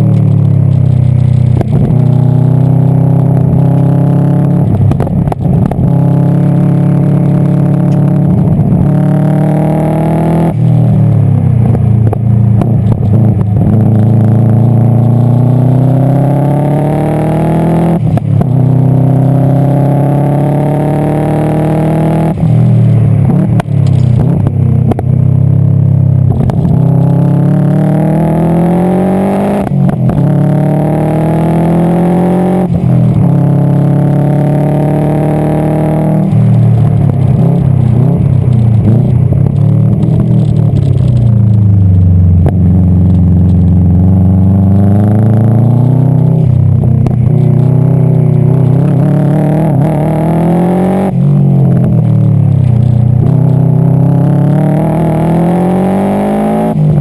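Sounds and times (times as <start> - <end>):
car engine accelerating hard: 0.0 - 57.0
exhaust crackles: 0.0 - 57.0.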